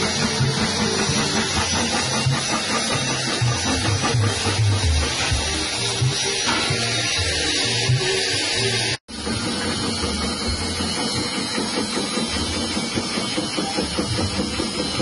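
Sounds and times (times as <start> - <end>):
slicing machine motor whirring: 0.0 - 15.0.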